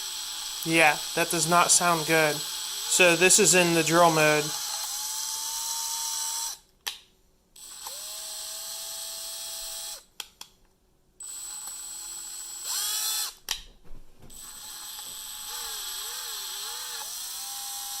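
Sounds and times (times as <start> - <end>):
cordless drill motor whining: 0.0 - 6.6, 7.6 - 10.1, 11.2 - 13.4, 14.3 - 18.0
drill clicks: 0.1 - 6.6, 7.6 - 10.1, 11.2 - 13.5, 14.3 - 18.0.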